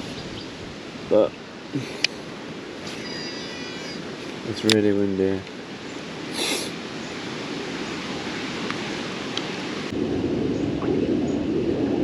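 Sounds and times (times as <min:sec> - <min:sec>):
wind blowing on microphone: 0:00.0 - 0:12.0.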